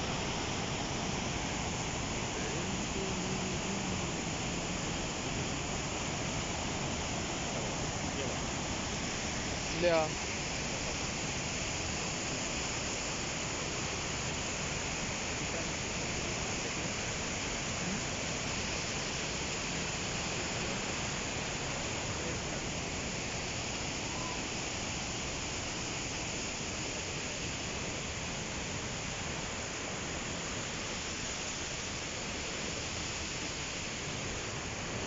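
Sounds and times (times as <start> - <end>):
river rushing through rapids: 0.0 - 35.0.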